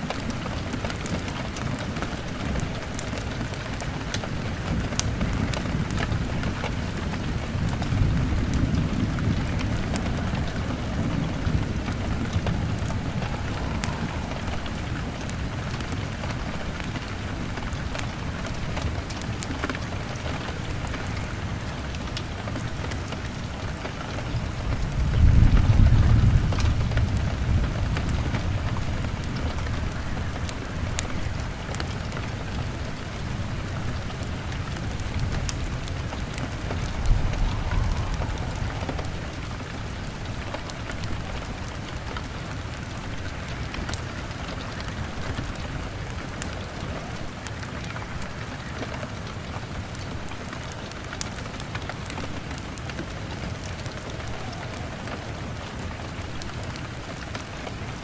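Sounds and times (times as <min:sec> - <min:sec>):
rain beating on a window: 0:00.0 - 0:58.0
thunder rumble: 0:00.0 - 0:58.0.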